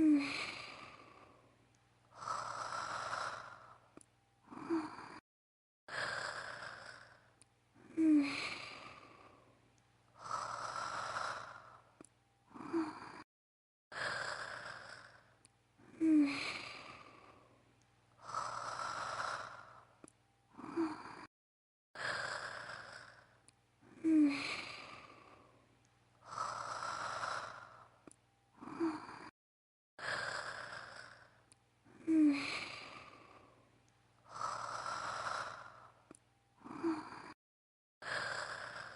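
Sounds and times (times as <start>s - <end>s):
woman snoring: 0.0s - 1.5s, 2.1s - 5.2s, 5.9s - 13.3s, 13.9s - 17.6s, 18.2s - 21.3s, 22.0s - 25.6s, 26.2s - 29.4s, 30.0s - 33.6s, 34.2s - 37.4s, 38.0s - 38.9s.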